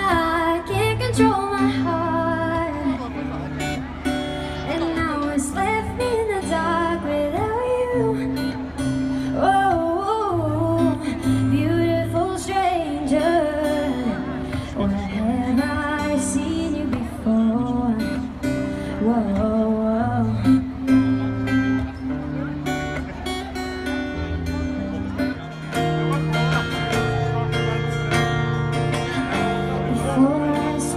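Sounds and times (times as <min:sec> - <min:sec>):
person singing live: 0:00.0 - 0:30.9
strummed acoustic guitar: 0:00.0 - 0:30.9.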